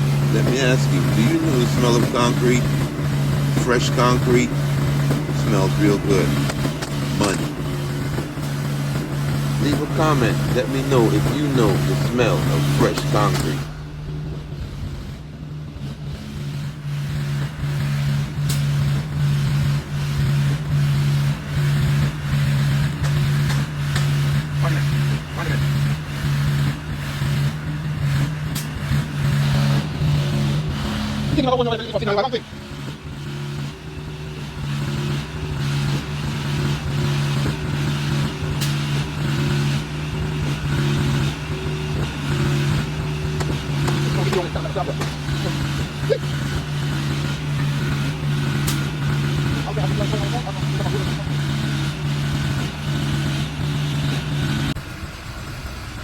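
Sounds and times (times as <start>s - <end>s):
engine humming rhythmically: 0.0s - 56.0s.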